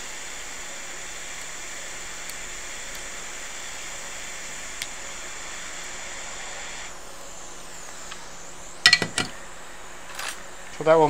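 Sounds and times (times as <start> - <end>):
hot air blower hissing: 0.0 - 11.0.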